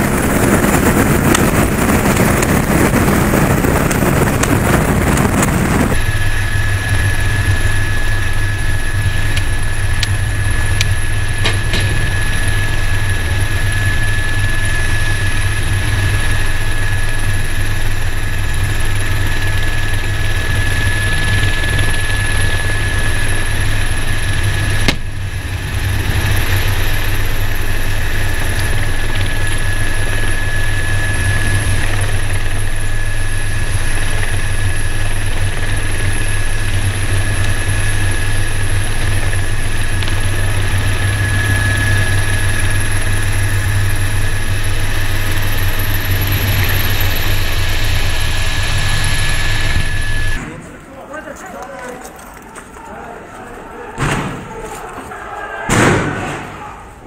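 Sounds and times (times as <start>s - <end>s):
helicopter rotor low drone: 0.0s - 53.9s
helicopter turbine whine: 0.0s - 54.0s.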